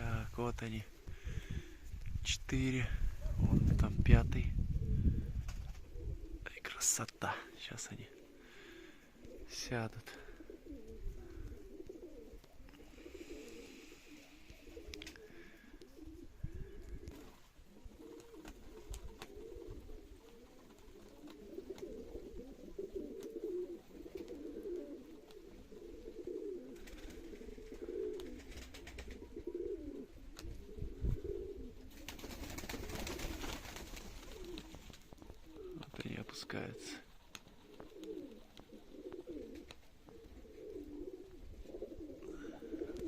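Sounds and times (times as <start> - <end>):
pigeons cooing: 0.8 - 2.0, 4.6 - 43.0.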